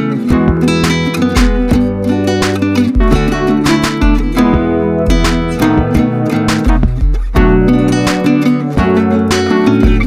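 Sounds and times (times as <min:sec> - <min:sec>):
strummed acoustic guitar: 0:00.0 - 0:10.0
bass line: 0:00.3 - 0:09.2.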